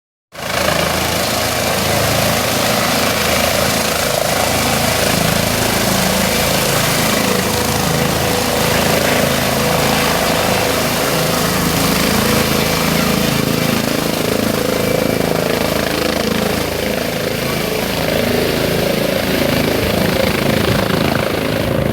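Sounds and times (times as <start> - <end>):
helicopter engine and rotor: 0.3 - 21.9.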